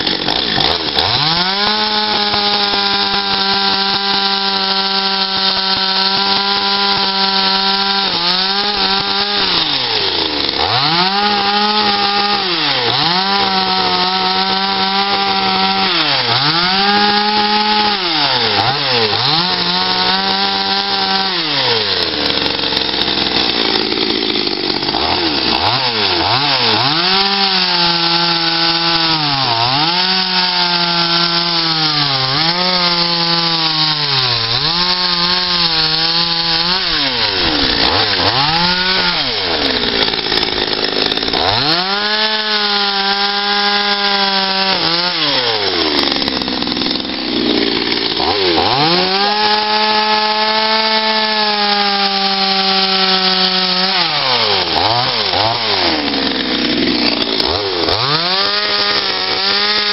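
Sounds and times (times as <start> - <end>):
chainsaw cutting and revving: 0.0 - 59.9.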